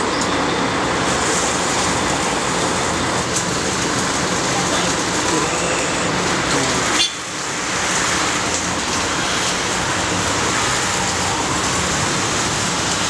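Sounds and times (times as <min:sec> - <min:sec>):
street noise hiss: 0:00.0 - 0:13.0.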